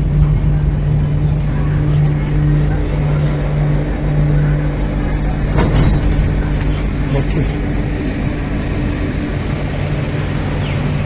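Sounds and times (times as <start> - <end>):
train humming and rumbling: 0.0 - 11.0.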